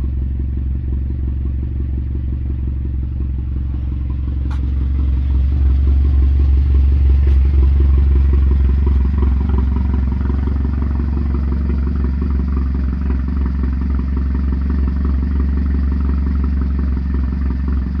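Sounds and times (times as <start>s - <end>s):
car engine running: 0.0s - 18.0s
faint engine clatter: 0.0s - 18.0s.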